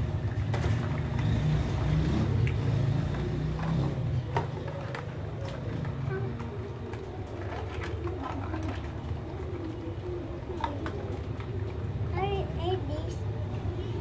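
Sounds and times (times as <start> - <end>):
low mechanical hum: 0.0 - 14.0
plastic toys splashing in water: 0.0 - 14.0.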